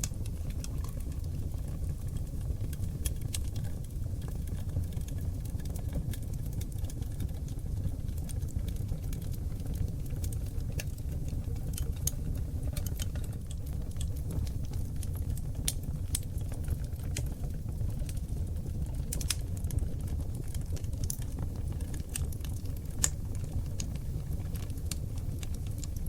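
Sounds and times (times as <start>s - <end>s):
fire rumbling: 0.0s - 26.0s
wood crackling: 0.0s - 26.0s.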